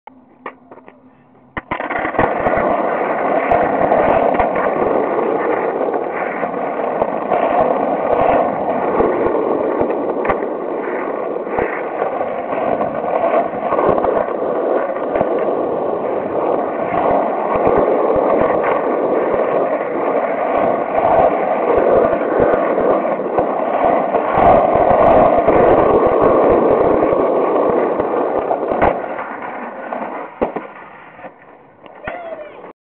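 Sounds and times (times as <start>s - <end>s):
skateboard wheels rolling on asphalt: 0.1s - 32.7s
skateboard wheels clicking over cracks: 0.4s - 32.2s.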